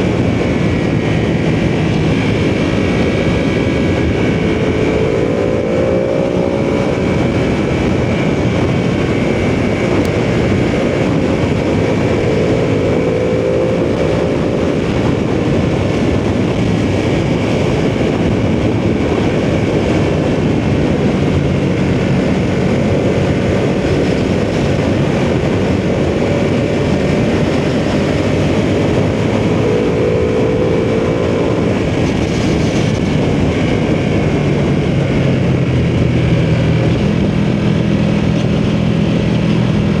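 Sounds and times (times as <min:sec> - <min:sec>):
motorcycle engine revving: 0:00.0 - 0:40.0
wind rush: 0:00.0 - 0:40.0.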